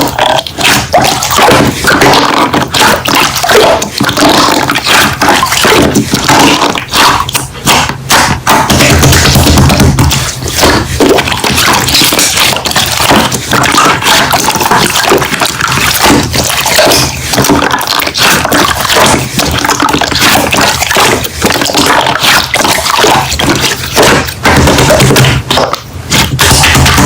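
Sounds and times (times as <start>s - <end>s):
slime squishing: 0.0s - 27.0s
wet clicking and popping: 0.0s - 27.0s.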